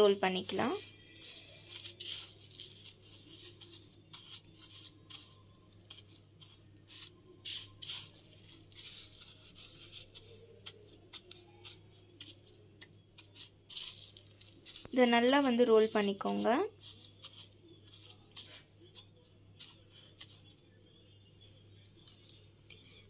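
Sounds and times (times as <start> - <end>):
dry vermicelli rustling and crackling: 0.0 - 23.0.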